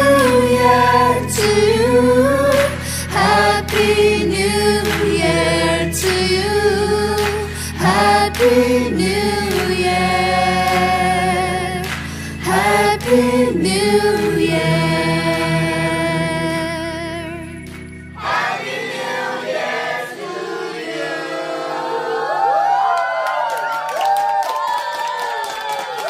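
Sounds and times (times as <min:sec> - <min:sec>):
low musical backing: 0:00.0 - 0:22.0
sung vocals with held notes: 0:00.0 - 0:22.4.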